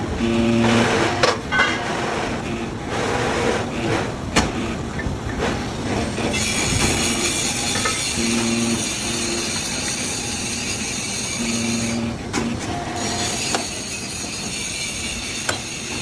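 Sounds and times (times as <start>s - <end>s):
excavator track machinery noise: 0.0s - 16.0s.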